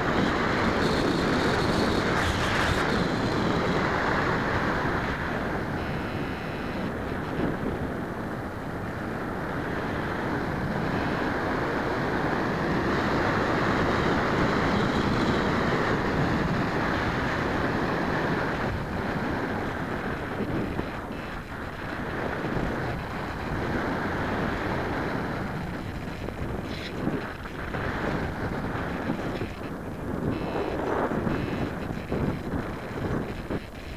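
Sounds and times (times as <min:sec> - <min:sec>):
wind roaring over microphone: 0:00.0 - 0:33.9.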